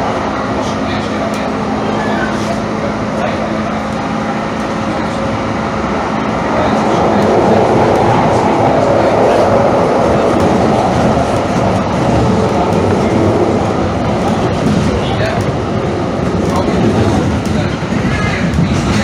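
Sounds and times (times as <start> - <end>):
light-rail train rumbling: 0.0 - 19.0.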